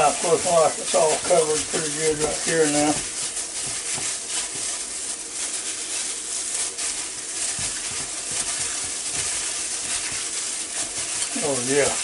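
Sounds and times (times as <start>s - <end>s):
wet squishing and rustling: 0.0s - 12.0s.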